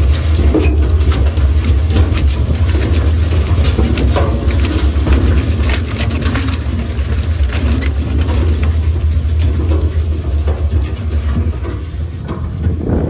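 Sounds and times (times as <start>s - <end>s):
wood crackling as chipped: 0.0s - 12.8s
wood chipper droning: 0.0s - 13.0s.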